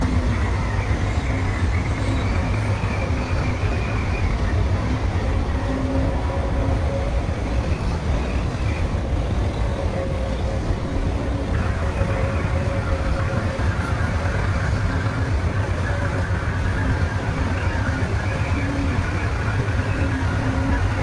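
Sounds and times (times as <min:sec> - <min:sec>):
diesel machinery engine rumble: 0:00.0 - 0:21.0
faint whine: 0:00.0 - 0:21.0.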